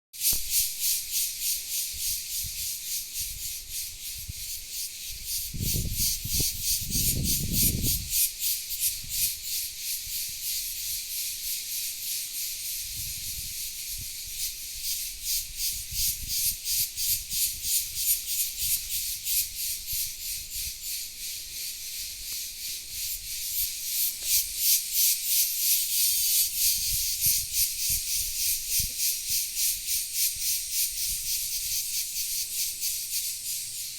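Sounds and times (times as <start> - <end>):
insects chirring: 0.2 - 33.9.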